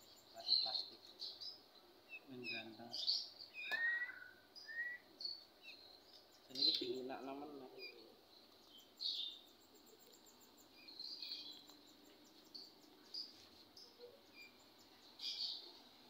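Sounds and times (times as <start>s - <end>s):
bird chicks begging chirps: 0.0s - 16.0s.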